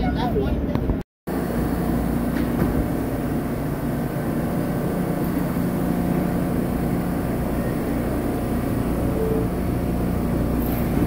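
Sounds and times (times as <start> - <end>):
low electrical hum: 1.3 - 11.0
subway train droning: 1.3 - 11.0.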